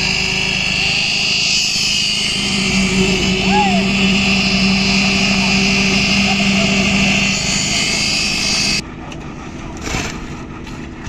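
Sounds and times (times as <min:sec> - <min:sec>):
heavy machinery running: 0:00.0 - 0:09.0.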